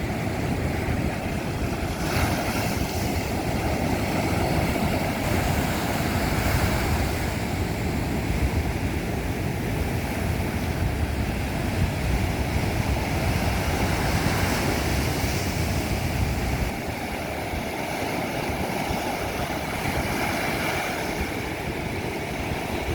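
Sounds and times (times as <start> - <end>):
sea surf washing onto beach: 0.0 - 22.9.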